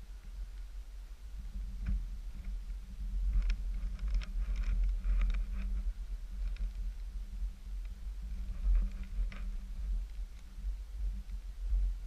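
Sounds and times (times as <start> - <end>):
steady low rumble: 0.0 - 12.0
light clicks and rustles: 1.4 - 12.0.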